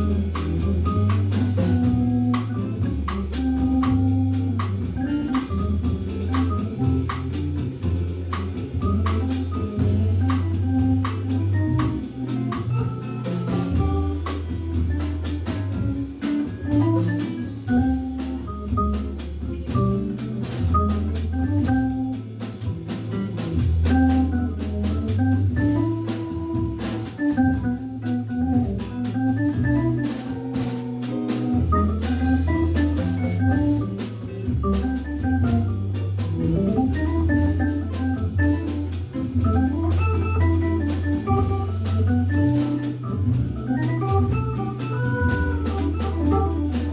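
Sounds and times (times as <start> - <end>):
drums and cymbals: 0.0 - 46.9
jazz organ playing: 0.0 - 46.9.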